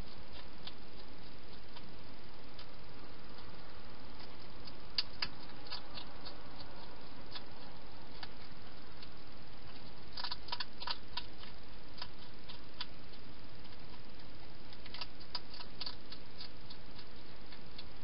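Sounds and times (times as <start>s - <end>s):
hedgehog chewing clicks: 0.0s - 18.0s
steady hiss: 0.0s - 18.0s.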